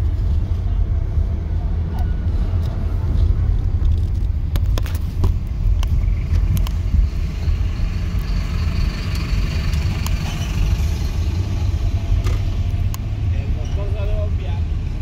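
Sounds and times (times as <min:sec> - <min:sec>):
car rumble from inside cabin: 0:00.0 - 0:15.0.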